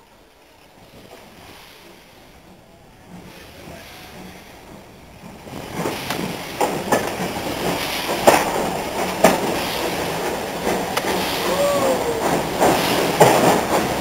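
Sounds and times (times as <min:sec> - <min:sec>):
train coach rumbling on track: 0:00.0 - 0:14.0
wheel clicks over rail joints: 0:00.9 - 0:14.0.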